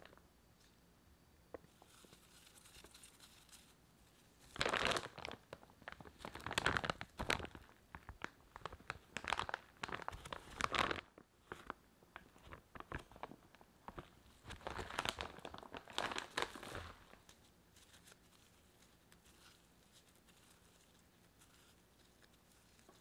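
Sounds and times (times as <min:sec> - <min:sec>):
plastic bag crinkling: 0:01.8 - 0:23.0.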